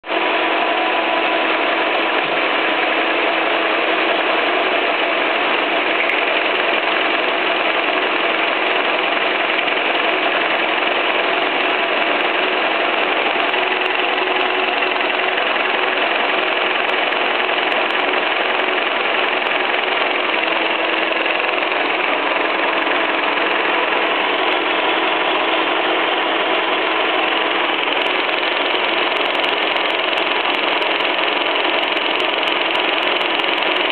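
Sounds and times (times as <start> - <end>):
milling machine running: 0.1 - 33.9.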